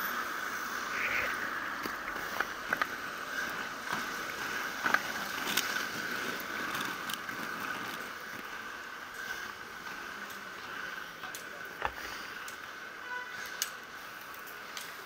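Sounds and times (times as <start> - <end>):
wheels rolling over asphalt: 0.0 - 15.0.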